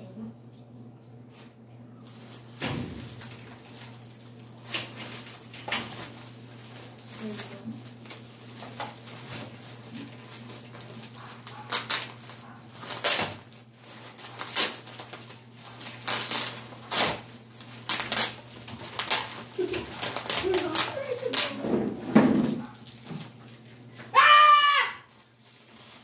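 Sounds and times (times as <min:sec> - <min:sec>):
plastic wrapping crinkling: 0:01.9 - 0:24.2, 0:25.0 - 0:26.0.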